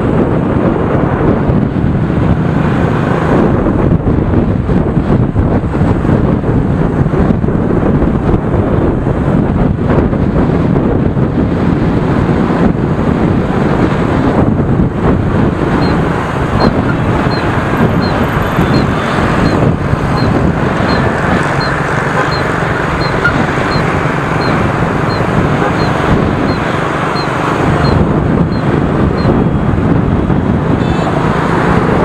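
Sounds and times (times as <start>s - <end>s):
motorbike and scooter traffic: 0.0s - 32.0s
wind buffeting microphone: 0.0s - 32.0s.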